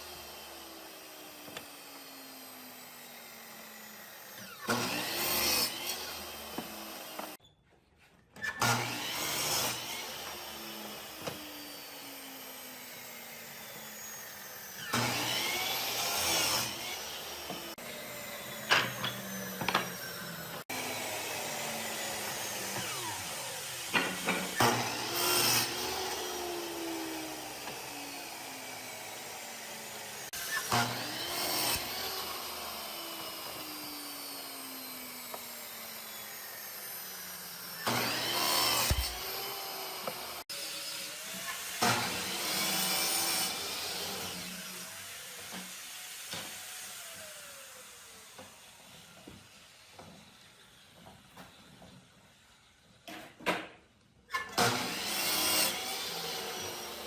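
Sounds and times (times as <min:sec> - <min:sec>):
power tools cutting wood: 0:00.0 - 0:07.4, 0:08.4 - 0:57.0.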